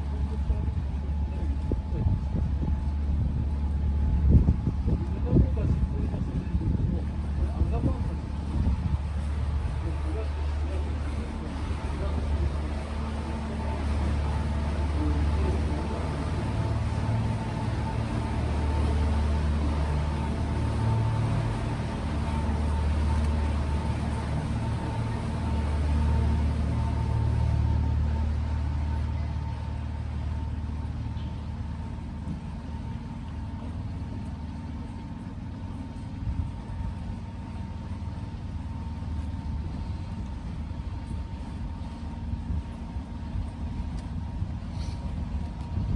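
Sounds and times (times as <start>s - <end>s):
boat motor droning: 0.0s - 45.9s.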